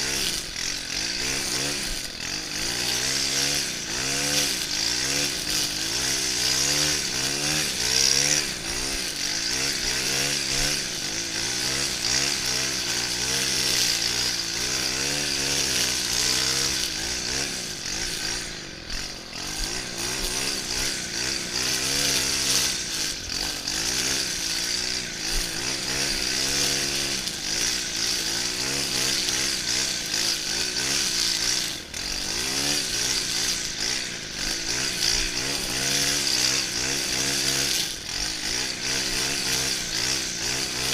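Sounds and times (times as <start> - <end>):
brushcutter engine at high revs: 0.0 - 40.9.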